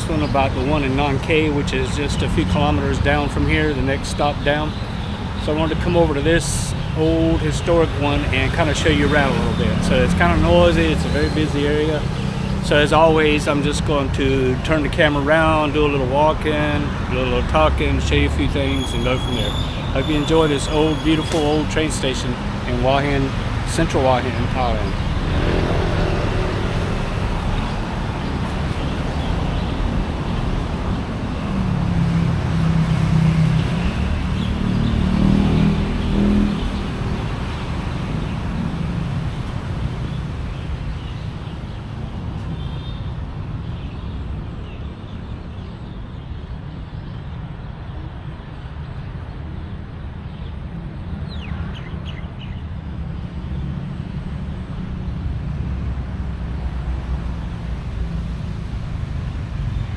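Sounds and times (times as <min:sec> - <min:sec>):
loud vehicle passing: 0:00.0 - 0:42.7, 0:52.6 - 0:59.9
street traffic passing: 0:00.0 - 0:59.9.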